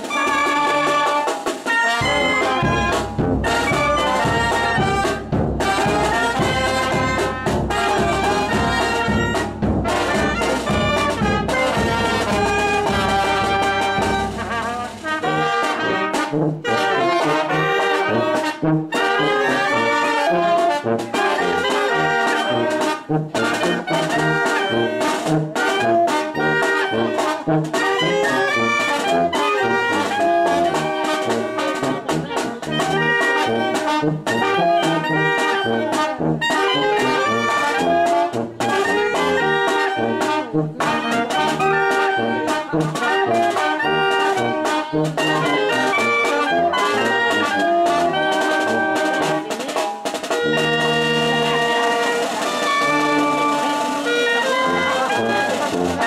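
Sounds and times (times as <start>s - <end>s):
bass drum and snare beat: 0.0s - 56.0s
brass band playing: 0.0s - 56.0s.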